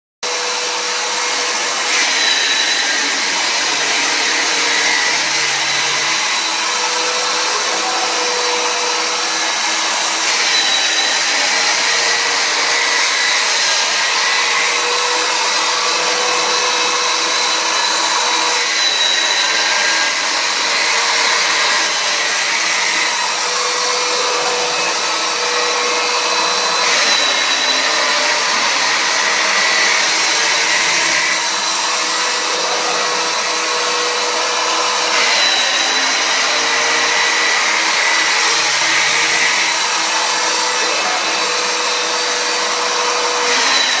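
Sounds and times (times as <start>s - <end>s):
drum sander whirring with whine: 0.2s - 44.0s.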